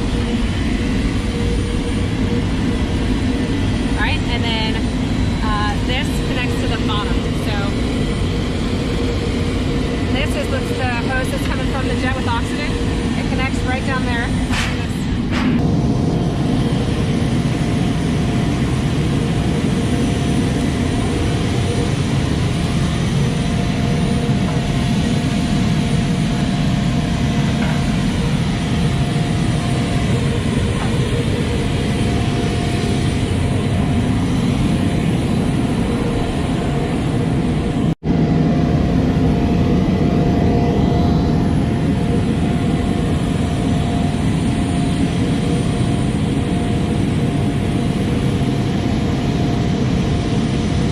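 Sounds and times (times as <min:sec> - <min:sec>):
jet engine running: 0:00.0 - 0:50.9.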